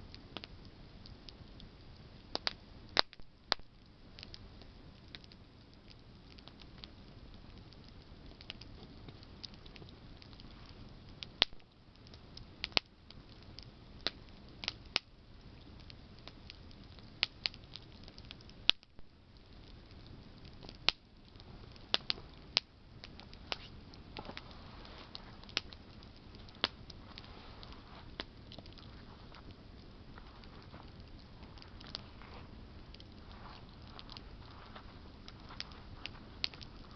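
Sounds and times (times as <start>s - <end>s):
campfire crackling and popping: 0.0s - 36.9s
hiss of flames: 0.0s - 36.9s.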